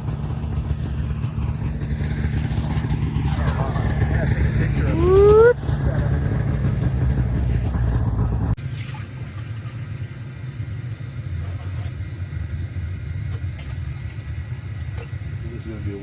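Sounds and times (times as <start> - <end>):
diesel engine rumbling: 0.0 - 16.0
steady low hum: 0.0 - 16.0.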